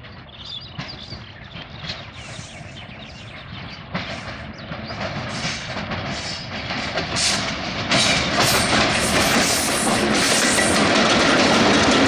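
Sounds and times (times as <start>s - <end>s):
passenger train running noise: 0.0s - 12.0s
train wheel clatter: 0.0s - 12.0s.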